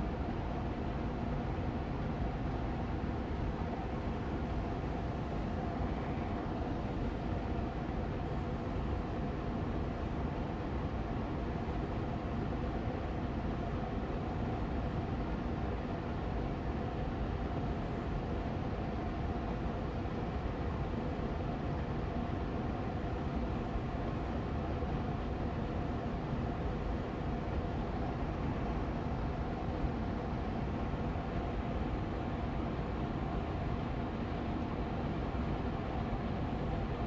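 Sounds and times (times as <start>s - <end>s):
air purifier fan running: 0.0s - 37.0s.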